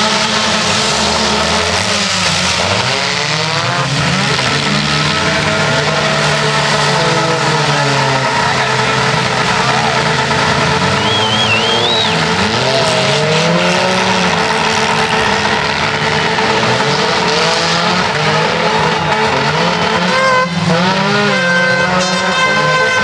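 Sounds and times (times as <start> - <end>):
car engines revving hard: 0.0 - 23.0
tire squeal: 0.0 - 23.0.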